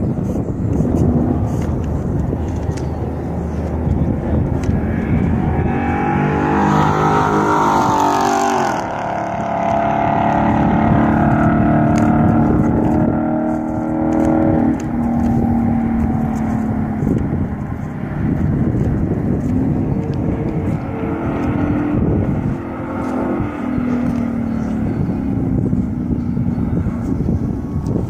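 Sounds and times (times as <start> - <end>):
sports car engine revving: 0.0 - 28.0.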